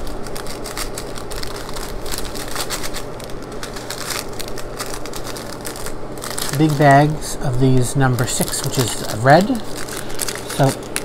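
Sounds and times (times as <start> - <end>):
rhinestones clicking in bag: 0.0 - 7.2, 8.0 - 11.0
plastic bags crinkling: 0.0 - 11.0.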